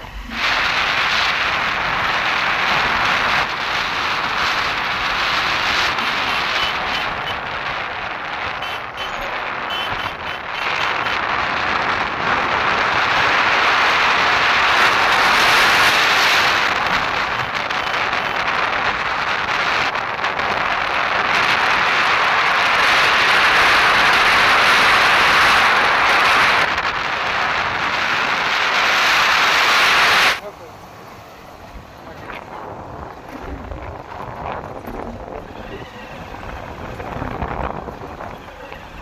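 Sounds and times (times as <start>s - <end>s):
wind rushing over microphone: 0.0s - 30.4s, 31.5s - 39.0s
motorcycle road noise: 0.0s - 39.0s.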